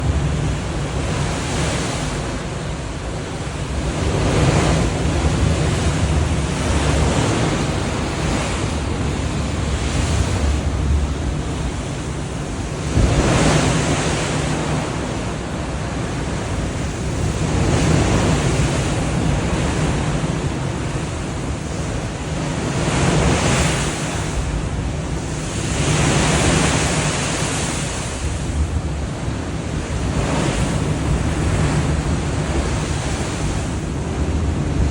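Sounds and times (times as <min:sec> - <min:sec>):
sea water rushing: 0:00.0 - 0:34.9
wind buffeting microphone: 0:00.0 - 0:34.9.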